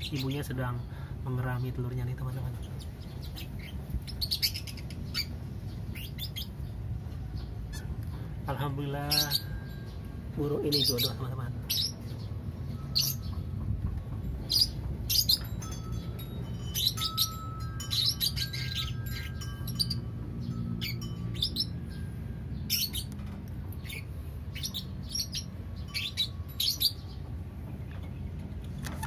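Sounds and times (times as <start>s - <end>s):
lovebirds chirping: 0.0s - 29.0s
steady low hum: 0.0s - 29.0s.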